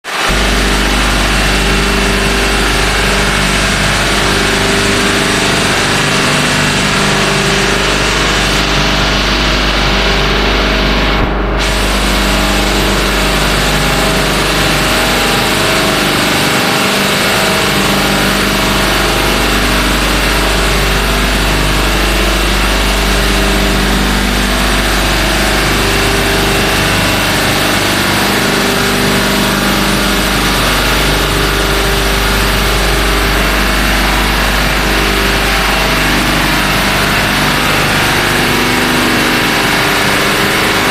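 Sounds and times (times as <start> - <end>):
compressor running loudly: 0.0 - 40.9.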